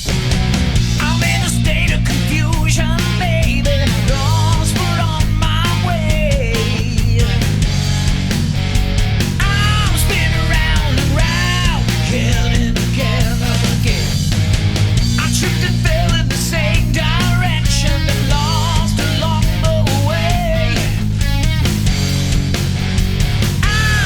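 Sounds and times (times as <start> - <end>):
loud rock music: 0.0 - 24.0.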